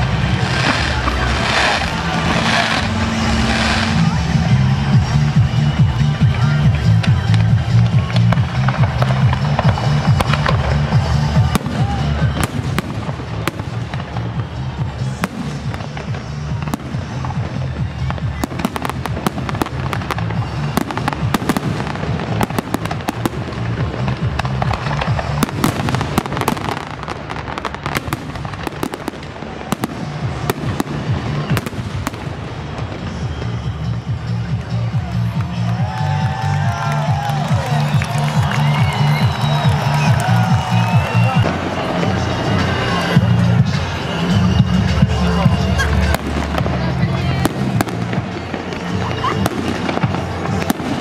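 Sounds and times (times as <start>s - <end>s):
bass-heavy music over loudspeakers: 0.0s - 51.0s
fireworks cracking and popping: 0.0s - 51.0s.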